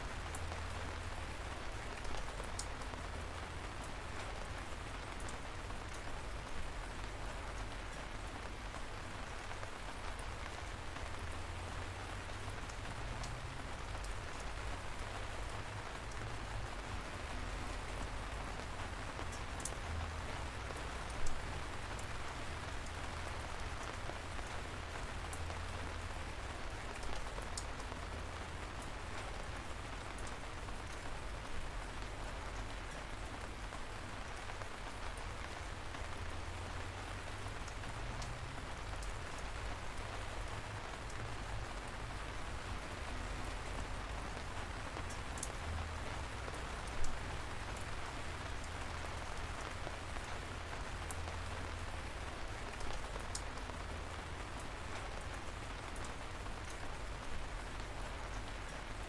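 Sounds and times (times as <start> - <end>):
light rain falling: 0.0 - 59.0.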